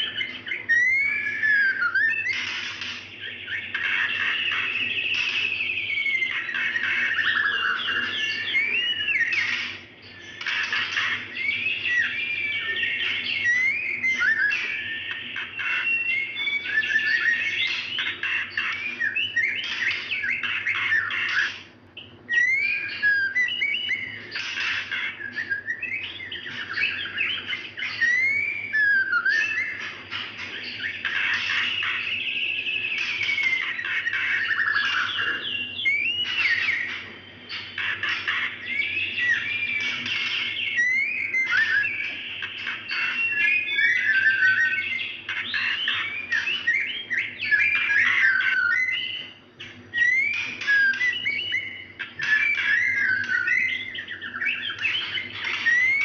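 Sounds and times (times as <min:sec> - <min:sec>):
bird whistled notes: 0:00.0 - 0:56.0.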